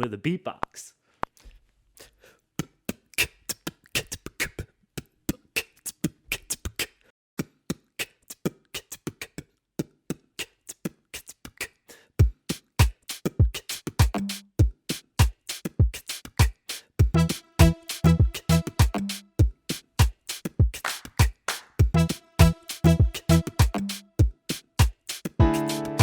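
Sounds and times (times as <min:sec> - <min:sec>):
beatboxing: 0:02.0 - 0:26.0.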